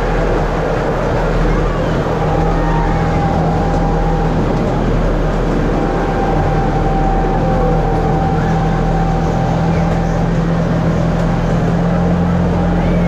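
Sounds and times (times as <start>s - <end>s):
train drone and rumble: 0.0s - 13.0s
thin high whine: 1.5s - 13.0s.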